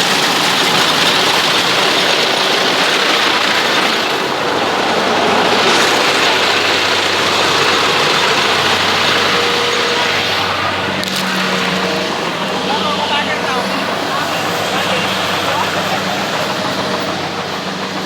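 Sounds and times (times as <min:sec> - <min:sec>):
combine harvester engine drone: 0:00.0 - 0:18.0
mechanical noise of machinery: 0:00.0 - 0:18.0.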